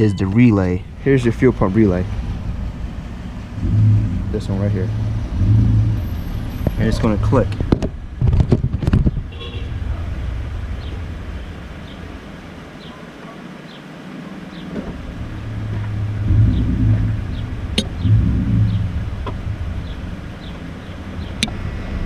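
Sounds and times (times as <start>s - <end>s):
passing vehicle rumble: 0.0s - 22.0s.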